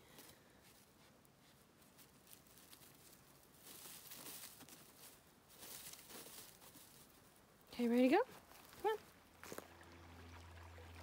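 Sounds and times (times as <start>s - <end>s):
cat pawing dry forest litter: 0.0s - 9.8s.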